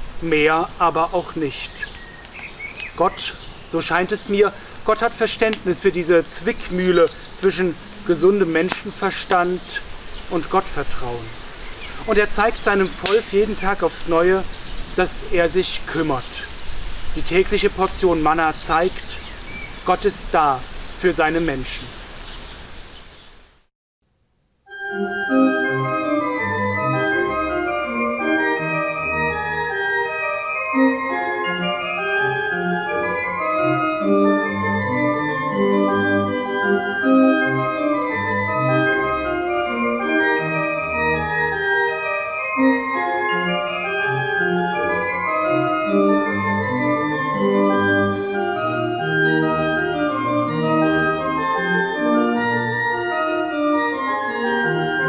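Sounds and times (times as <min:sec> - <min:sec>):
organ music: 0:00.0 - 0:16.5, 0:17.1 - 0:21.8, 0:24.7 - 0:55.0.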